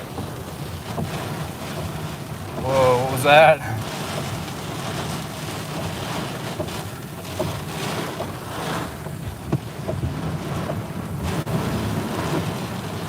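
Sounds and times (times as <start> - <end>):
wind and rain buffeting a truck: 0.0 - 13.0.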